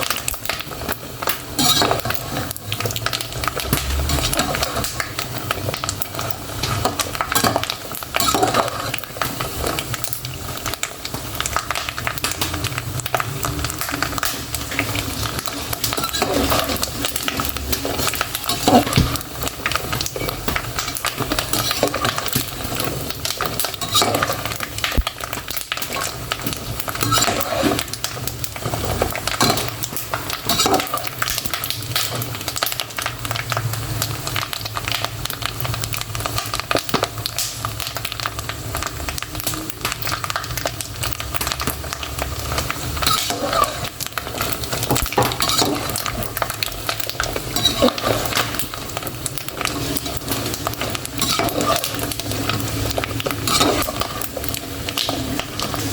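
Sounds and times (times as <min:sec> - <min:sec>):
pork frying with crackling pops: 0:00.0 - 0:55.9.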